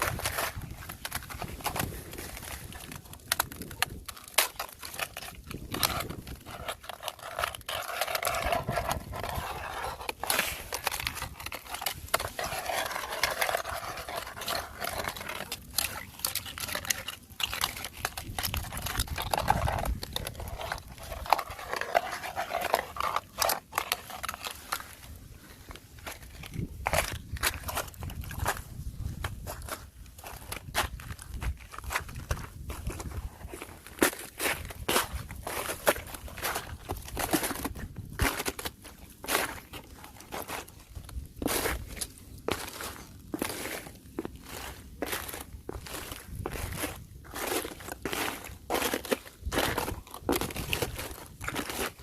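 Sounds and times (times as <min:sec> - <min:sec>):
ice cracking underfoot: 0:00.0 - 0:52.0.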